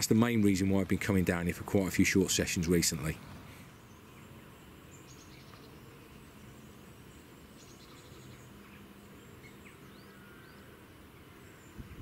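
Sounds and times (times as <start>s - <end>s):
bird chirps and trills: 0.0s - 12.0s.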